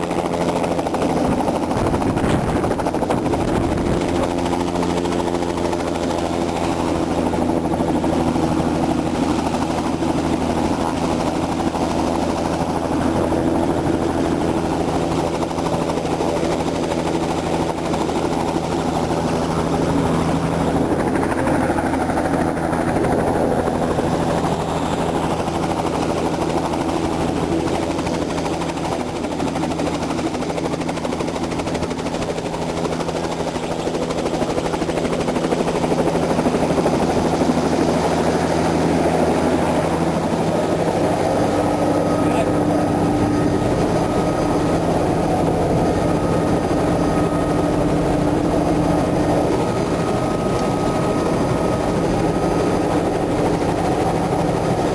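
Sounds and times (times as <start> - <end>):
helicopter engine and rotor: 0.0 - 54.9.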